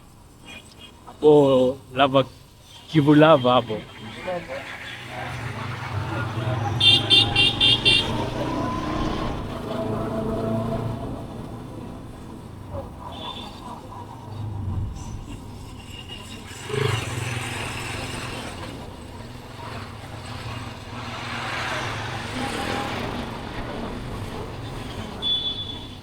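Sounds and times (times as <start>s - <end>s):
vehicle engines running: 0.1s - 26.0s.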